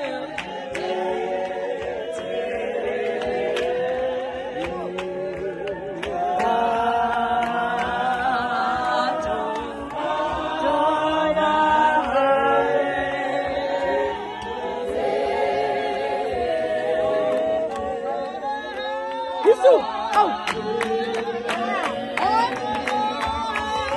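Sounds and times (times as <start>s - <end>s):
a cappella group singing: 0.0s - 23.9s.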